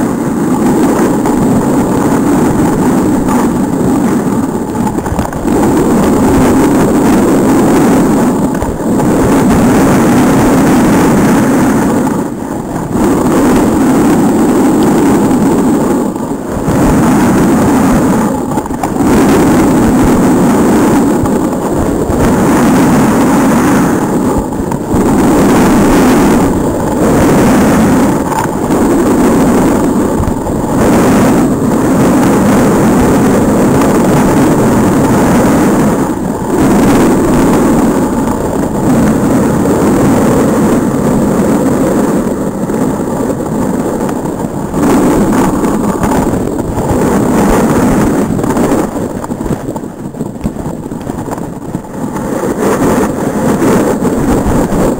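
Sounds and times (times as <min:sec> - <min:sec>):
snowboard scraping over snow: 0:00.0 - 0:54.9
wind rushing over microphone: 0:00.0 - 0:54.9.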